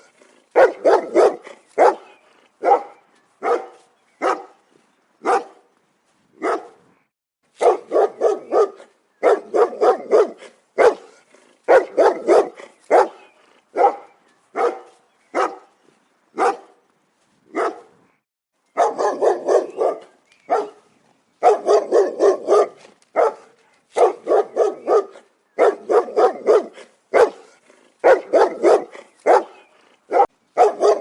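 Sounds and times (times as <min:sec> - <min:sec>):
large dog barking: 0:00.0 - 0:04.6, 0:05.2 - 0:05.7, 0:06.4 - 0:06.8, 0:07.6 - 0:16.8, 0:17.5 - 0:18.0, 0:18.8 - 0:31.0.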